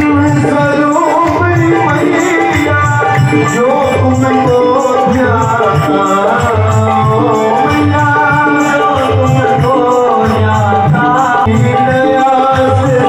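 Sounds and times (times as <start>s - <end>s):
percussion rhythm: 0.0s - 13.0s
voices singing devotional melody: 0.0s - 13.0s.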